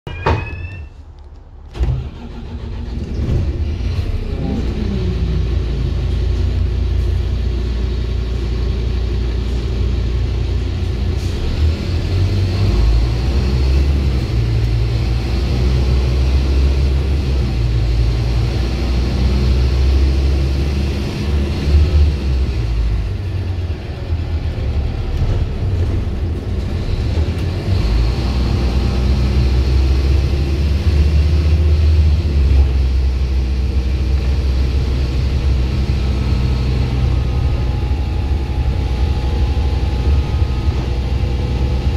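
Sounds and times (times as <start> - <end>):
bus diesel engine under load: 0.1 - 41.9.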